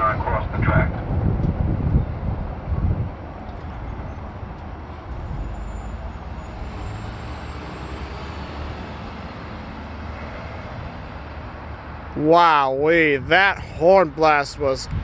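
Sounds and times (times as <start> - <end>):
rumble of vehicles: 0.0 - 15.0.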